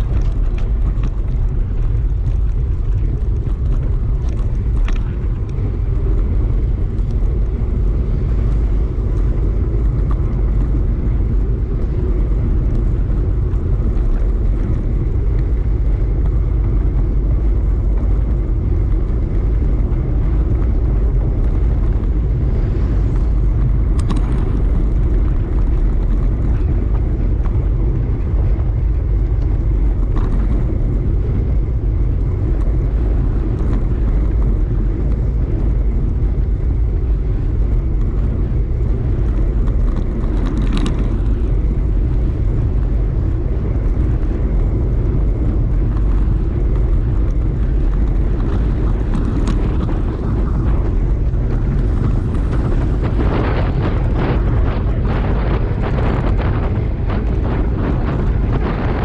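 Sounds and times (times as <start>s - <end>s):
road rumble: 0.0s - 59.0s
wind buffeting microphone: 0.0s - 59.0s.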